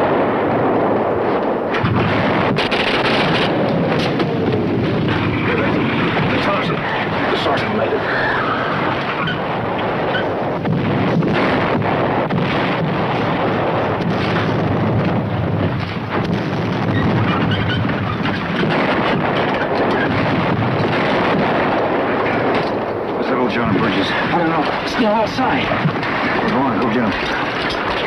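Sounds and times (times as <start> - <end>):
loud rumbling noise: 0.0 - 28.0
faint scattered cracks: 1.3 - 28.0.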